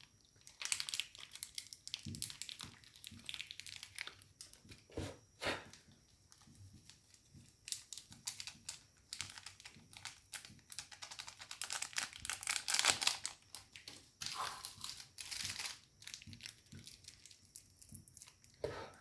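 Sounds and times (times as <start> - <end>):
packaging crinkling: 0.0 - 4.7, 7.6 - 18.6.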